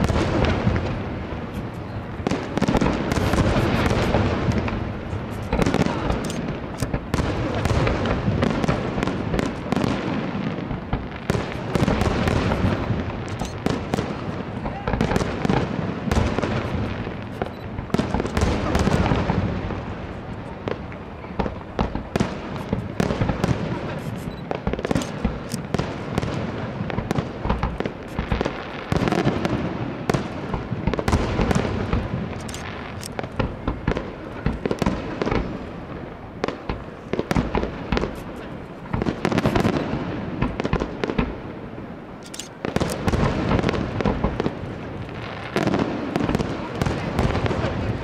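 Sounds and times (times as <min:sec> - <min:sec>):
firework shells bursting: 0:00.0 - 0:41.4.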